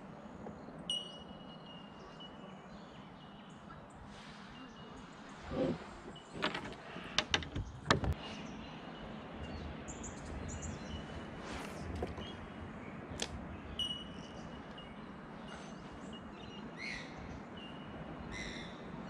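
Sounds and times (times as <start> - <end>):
birds chirping faintly: 0.0 - 19.0.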